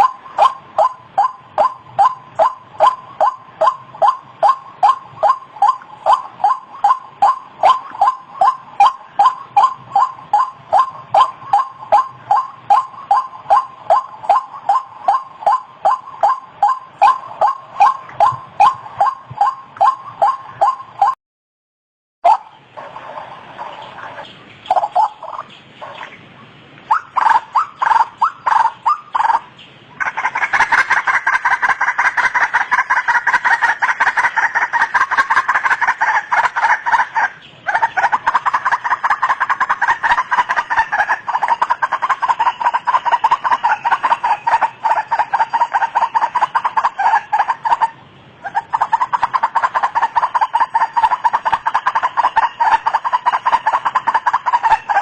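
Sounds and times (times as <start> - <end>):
waterhen calling harsh notes: 0.0 - 21.2, 22.2 - 55.0.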